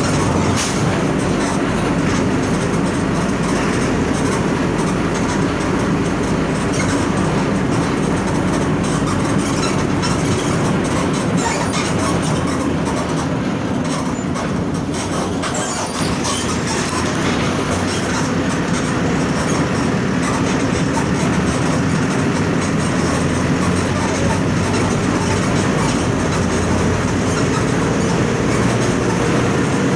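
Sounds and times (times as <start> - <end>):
diesel bus engine rumbling: 0.0 - 29.9.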